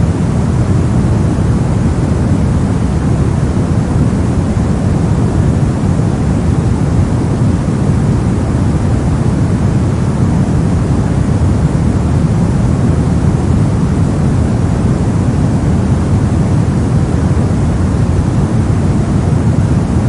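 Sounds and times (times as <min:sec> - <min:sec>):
brown noise hiss: 0:00.0 - 0:20.0.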